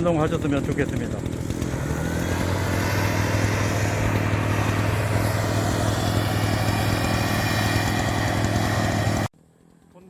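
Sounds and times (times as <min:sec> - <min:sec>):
brush cutter engine running: 0:00.0 - 0:10.0.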